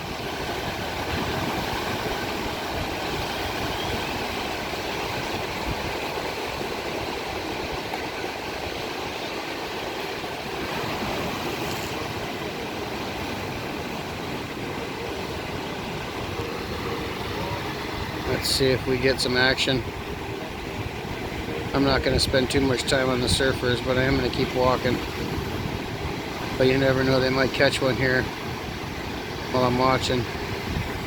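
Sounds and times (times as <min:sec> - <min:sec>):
ocean surf breaking: 0:00.0 - 0:31.0
wind buffeting microphone: 0:00.0 - 0:31.0.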